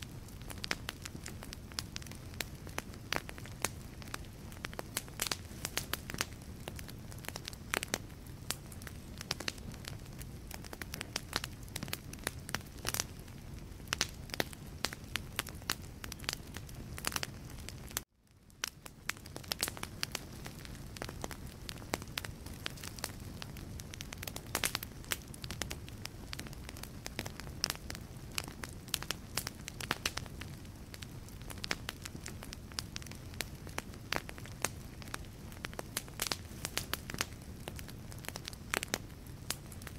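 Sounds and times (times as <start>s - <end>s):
logs crackling and popping: 0.0s - 39.9s
low rush of flame: 0.0s - 39.9s.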